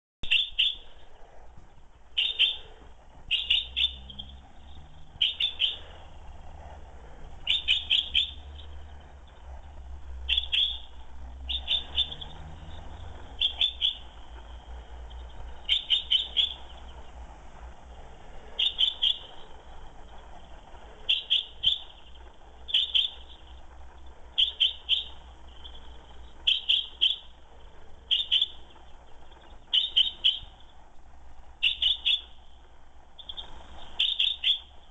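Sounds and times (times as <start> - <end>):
chaffinch calling: 0.2 - 30.9, 31.5 - 34.9.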